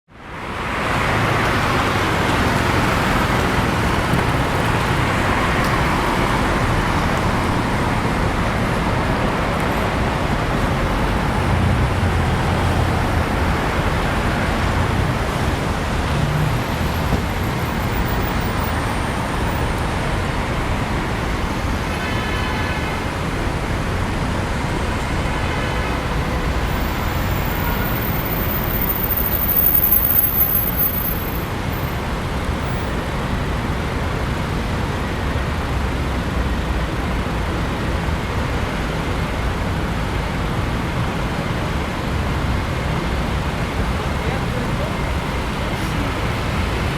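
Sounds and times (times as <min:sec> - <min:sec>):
city traffic passing: 0:00.1 - 0:46.9.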